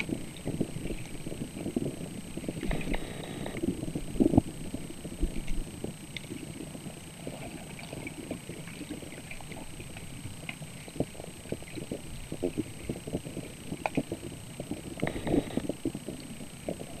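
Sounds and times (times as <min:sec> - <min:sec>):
faint high-pitched whine: 0:00.0 - 0:17.0
muffled underwater water rumble: 0:00.0 - 0:17.0.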